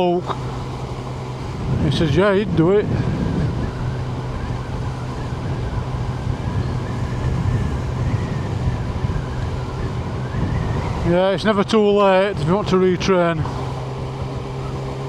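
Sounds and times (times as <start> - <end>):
motorcycle engine cruising: 0.0 - 15.0
road noise: 0.0 - 15.0.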